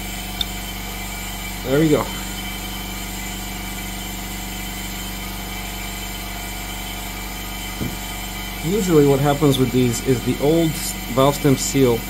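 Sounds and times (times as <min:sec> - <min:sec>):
machine hum with held tones: 0:00.0 - 0:12.0.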